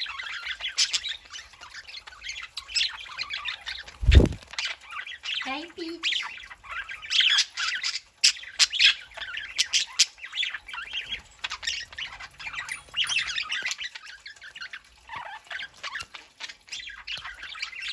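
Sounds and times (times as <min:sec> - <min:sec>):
budgerigars chattering and squawking: 0:00.0 - 0:17.9.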